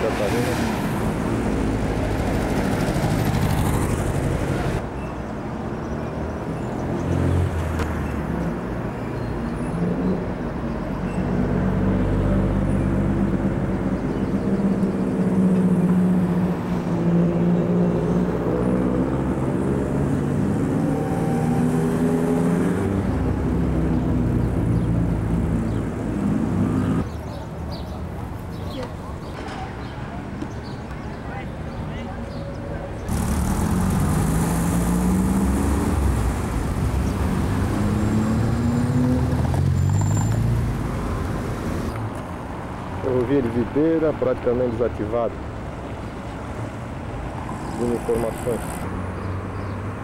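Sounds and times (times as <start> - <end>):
vehicle engines passing: 0.0 - 50.0.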